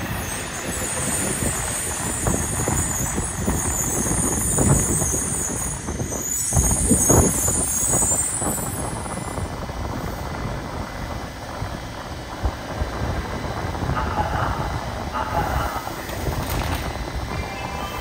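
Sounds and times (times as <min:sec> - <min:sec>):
train braking to a stop: 0:00.0 - 0:18.0.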